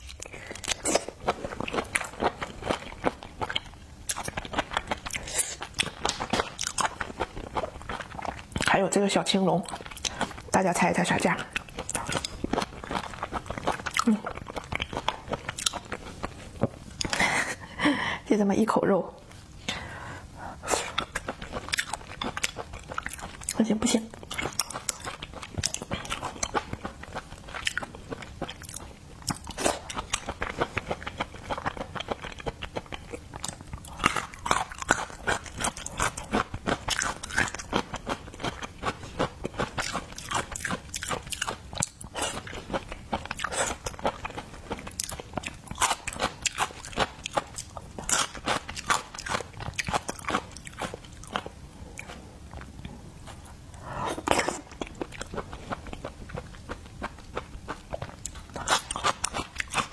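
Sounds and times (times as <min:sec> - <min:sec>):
person crunching and chewing seafood: 0:00.0 - 0:18.0, 0:19.8 - 0:59.9.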